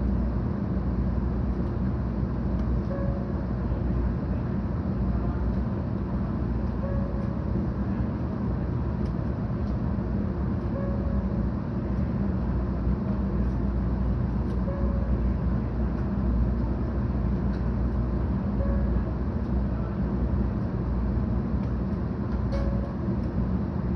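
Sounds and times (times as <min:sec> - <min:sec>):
train cabin rumble: 0:00.0 - 0:23.9.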